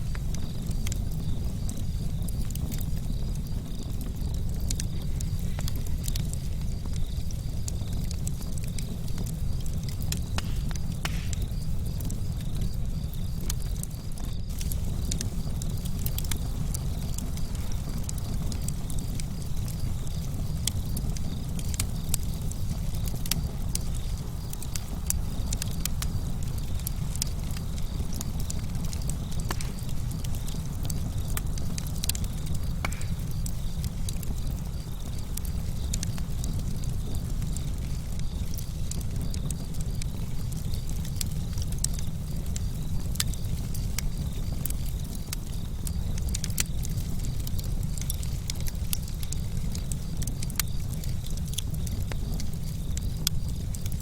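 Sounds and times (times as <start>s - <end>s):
burning wood crackling: 0.0s - 54.0s
campfire low rumble: 0.0s - 54.0s.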